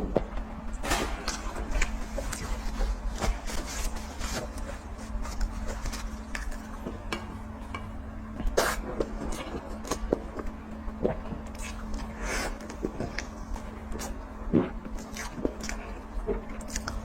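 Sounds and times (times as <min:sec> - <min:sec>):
wet chewing: 0:01.3 - 0:17.0.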